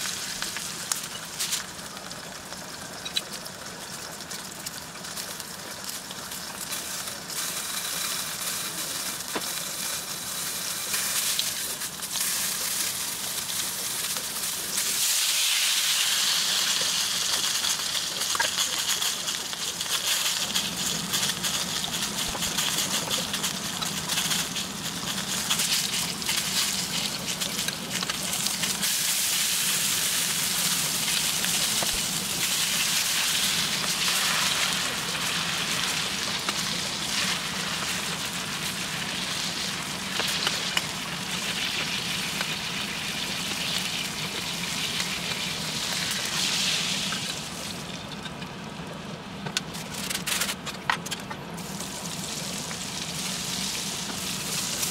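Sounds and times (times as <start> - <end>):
steak sizzling in frying pan: 0.0 - 47.9, 51.6 - 54.9.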